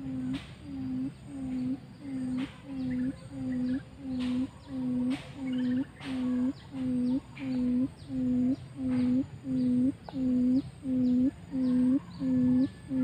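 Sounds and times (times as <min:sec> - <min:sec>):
quail decoy low hoots: 0:00.0 - 0:13.0.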